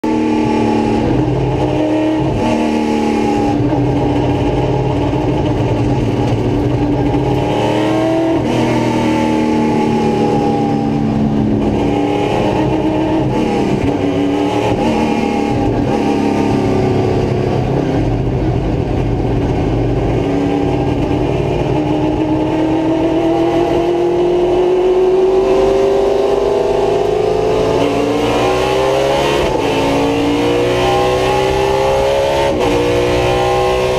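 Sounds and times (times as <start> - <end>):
racing car engine revving: 0.0 - 33.9.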